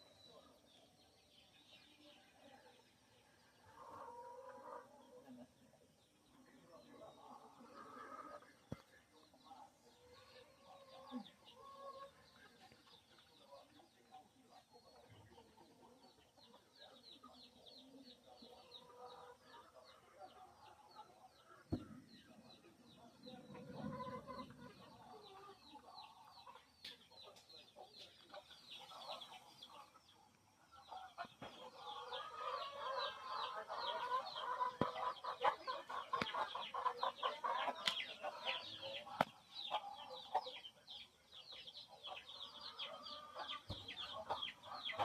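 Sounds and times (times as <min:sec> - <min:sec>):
birds chirping: 0:00.0 - 0:45.0
lower clucking bird calls: 0:03.2 - 0:45.0.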